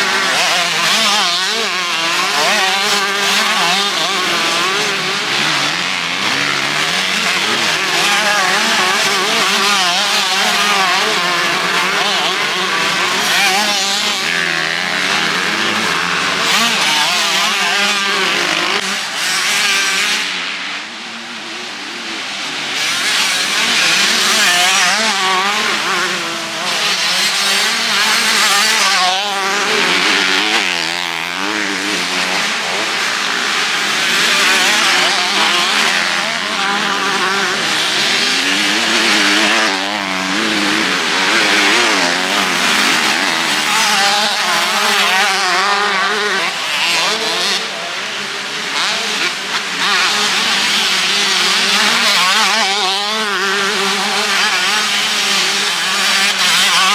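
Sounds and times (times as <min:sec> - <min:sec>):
motocross bikes revving: 0:00.0 - 0:56.9.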